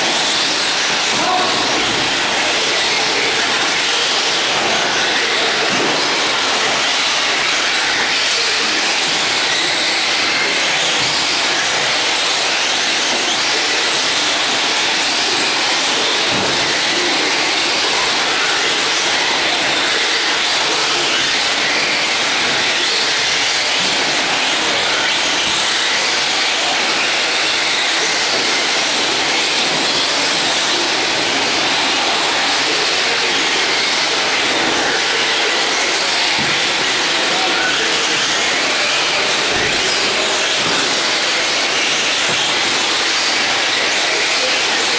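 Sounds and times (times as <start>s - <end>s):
rc trucks whirring: 0.0s - 44.9s.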